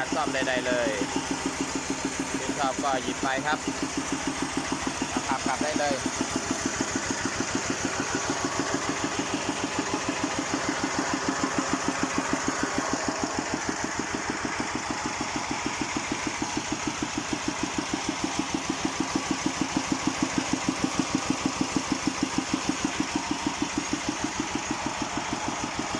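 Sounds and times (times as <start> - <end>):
tractor engine idling: 0.0 - 25.9.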